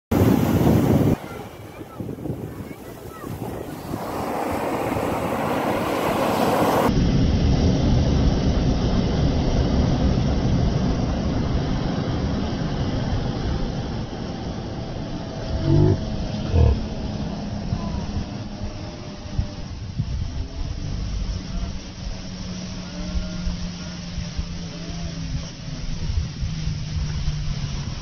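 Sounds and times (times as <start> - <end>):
deep steady rumble: 0.1 - 28.0
surf washing over sand: 0.1 - 28.0.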